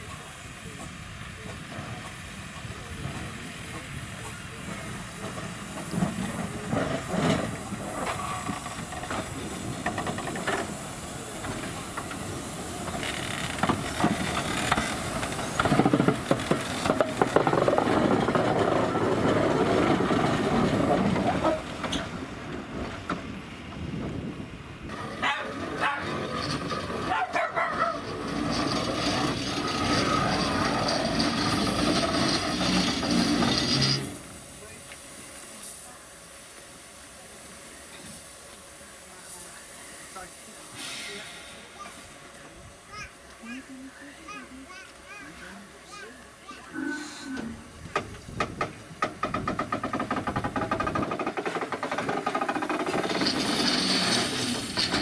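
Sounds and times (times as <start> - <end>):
steam locomotive hissing and working: 0.0 - 55.0.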